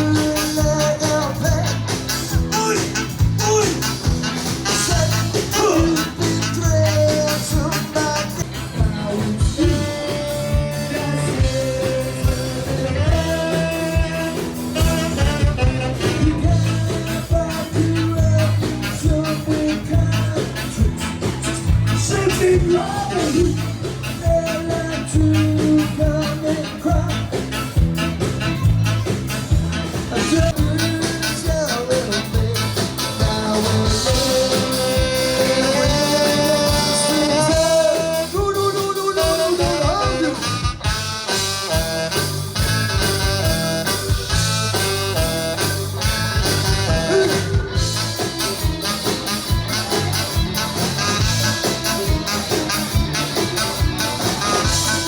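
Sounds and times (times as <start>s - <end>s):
music with strong bass line: 0.0s - 55.0s.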